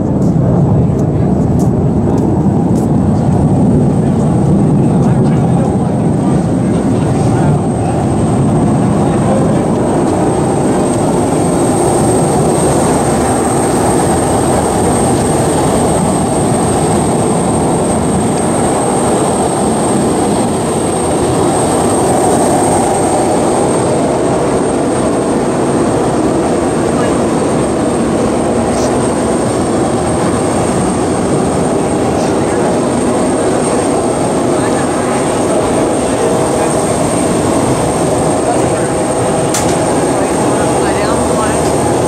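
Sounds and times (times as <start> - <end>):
high-pitched whine: 0.0 - 42.0
jet engine roaring: 0.0 - 42.0.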